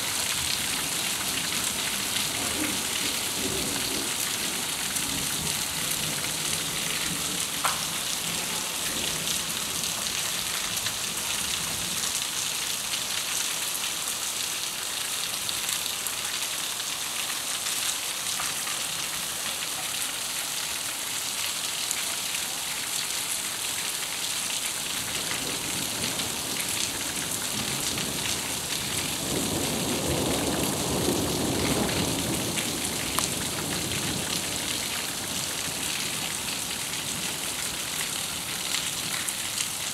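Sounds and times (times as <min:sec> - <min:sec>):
heavy rain pouring on pavement: 0:00.0 - 0:39.9.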